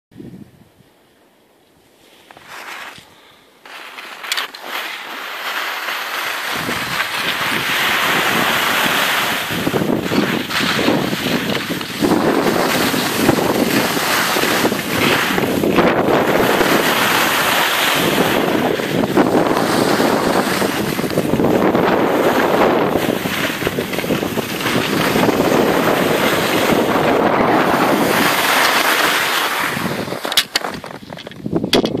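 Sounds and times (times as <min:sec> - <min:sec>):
wind on microphone: 0:00.1 - 0:00.9, 0:06.4 - 0:32.0
skis scraping over snow: 0:02.0 - 0:31.6.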